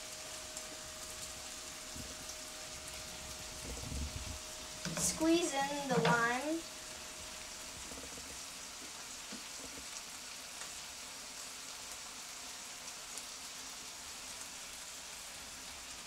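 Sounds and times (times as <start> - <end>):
chicken sizzling in a frying pan: 0.0 - 16.0.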